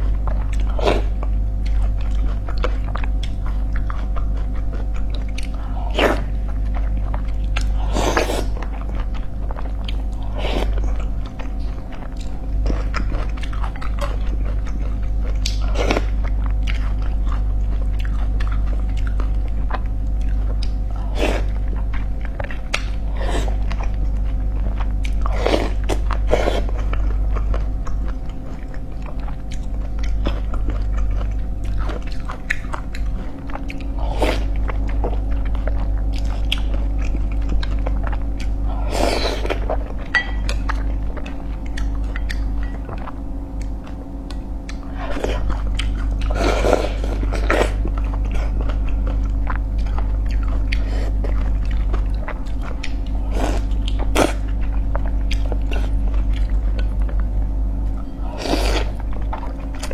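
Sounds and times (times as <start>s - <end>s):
close chewing and mouth sounds: 0.0s - 59.9s
low electrical hum: 0.0s - 59.9s.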